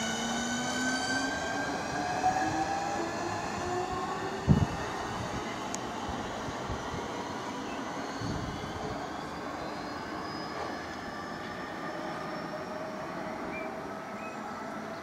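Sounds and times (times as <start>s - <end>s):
train hum: 0.0s - 15.0s
train traction motor whine: 0.0s - 15.0s.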